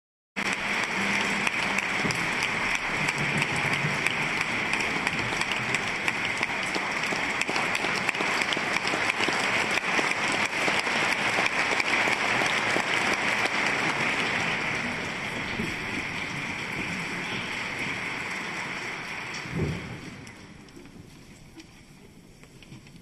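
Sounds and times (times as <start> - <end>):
audience applauding: 0.4 - 20.3.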